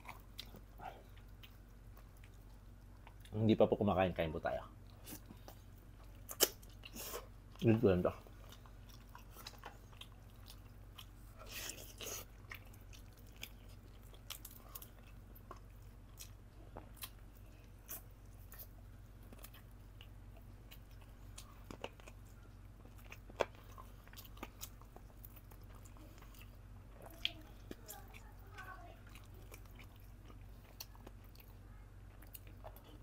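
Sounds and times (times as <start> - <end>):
chewing and lip smacks: 0.0 - 3.4, 4.8 - 33.0
steady low hum: 0.0 - 33.0.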